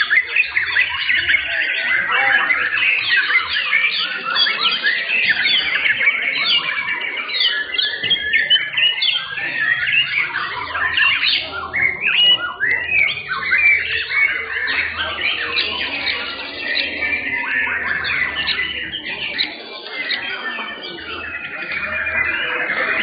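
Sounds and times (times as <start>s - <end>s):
many birds singing: 0.0s - 23.0s.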